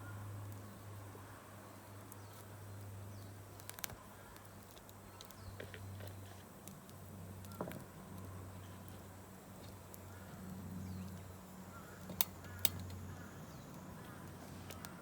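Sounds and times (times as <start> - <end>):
steady low hum: 0.0 - 15.0
campfire crackling and popping: 2.0 - 15.0.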